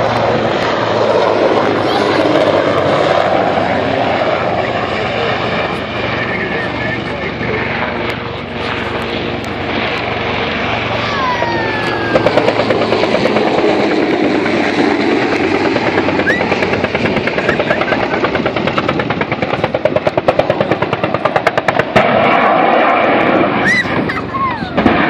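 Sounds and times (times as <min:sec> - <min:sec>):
helicopter rotor beating: 0:00.0 - 0:25.0.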